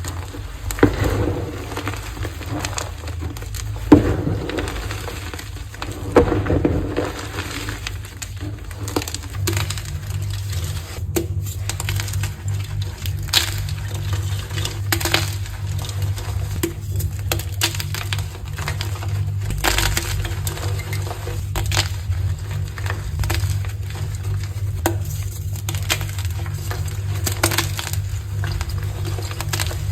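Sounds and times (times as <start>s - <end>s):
chalk blocks crunching: 0.0s - 29.9s
steady low hum: 0.0s - 29.9s.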